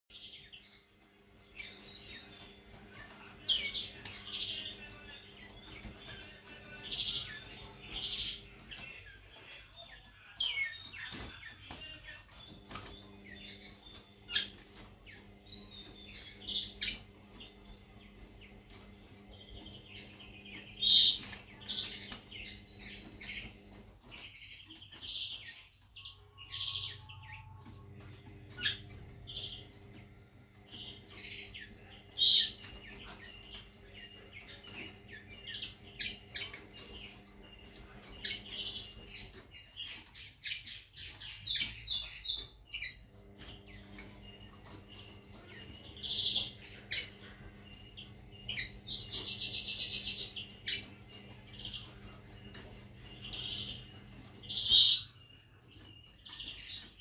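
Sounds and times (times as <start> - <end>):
bird chirping and twittering: 0.1 - 57.0
steady low hum: 0.1 - 57.0.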